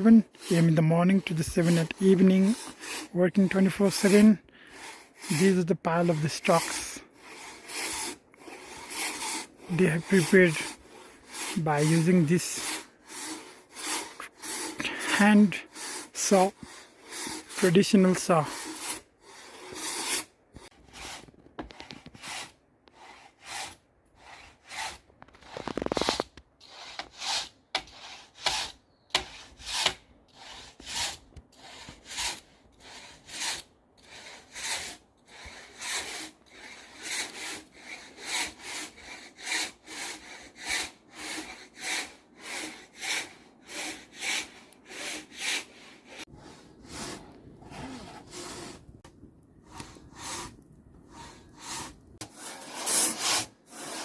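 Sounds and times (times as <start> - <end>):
hand saw rasping through timber: 0.0 - 54.0.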